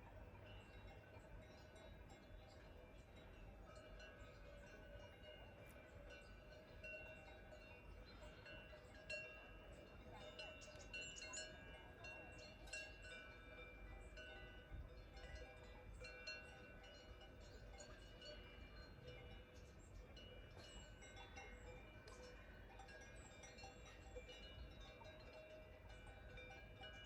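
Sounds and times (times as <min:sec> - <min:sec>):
cowbells clanking: 0:00.0 - 0:27.0.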